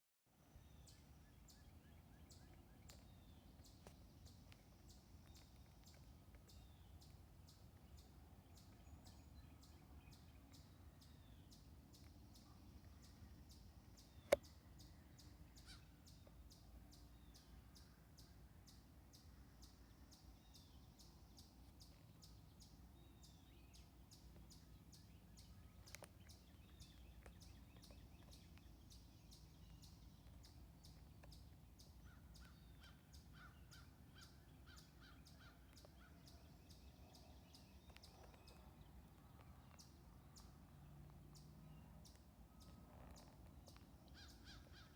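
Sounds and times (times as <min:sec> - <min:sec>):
birds calling: 0:00.6 - 0:17.5, 0:21.4 - 0:44.9.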